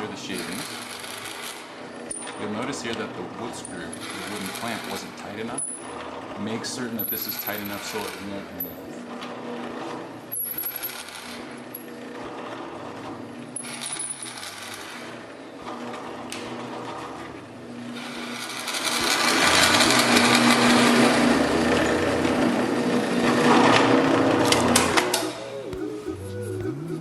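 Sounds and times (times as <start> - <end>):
electric drill boring into wood: 0.0 - 25.5
drill clicks: 0.3 - 25.8.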